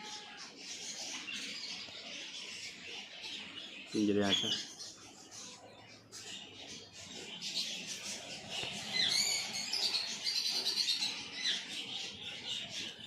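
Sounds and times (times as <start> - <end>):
caged birds chirping and twittering: 0.0 - 13.0.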